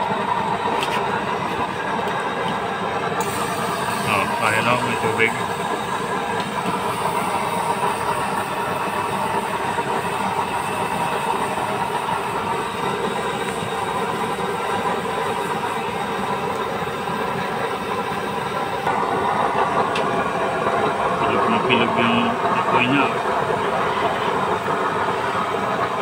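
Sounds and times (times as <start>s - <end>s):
stove flame rushing: 0.0s - 26.0s.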